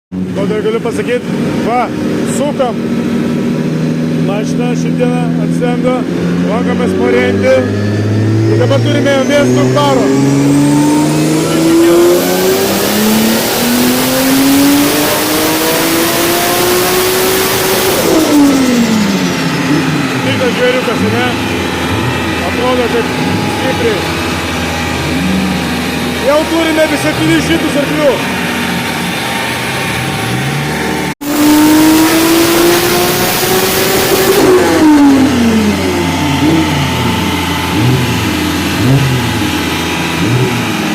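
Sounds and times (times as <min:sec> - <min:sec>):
engine revving on a dyno: 0:00.1 - 0:40.9.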